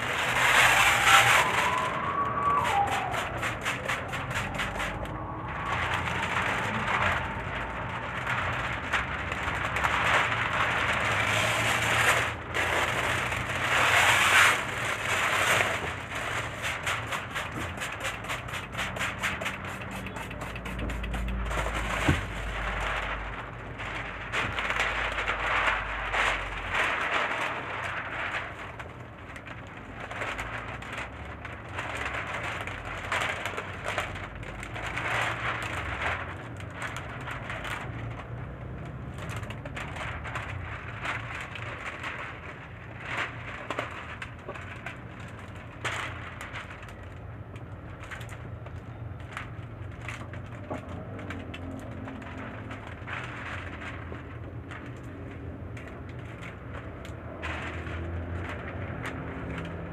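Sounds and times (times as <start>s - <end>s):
film rubbing and scraping on glass: 0.0s - 59.9s.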